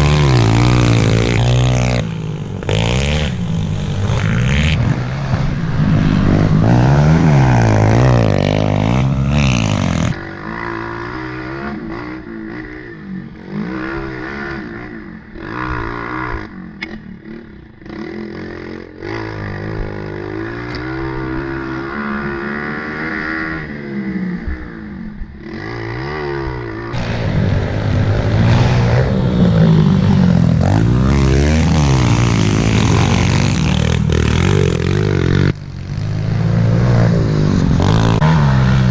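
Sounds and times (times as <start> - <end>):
pit bike engines revving: 0.0 - 38.9.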